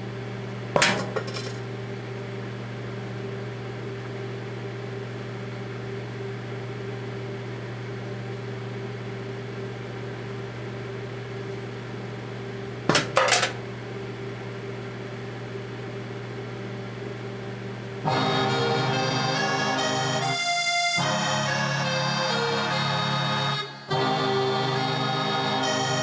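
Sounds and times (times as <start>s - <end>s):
microwave oven humming: 0.0s - 26.0s.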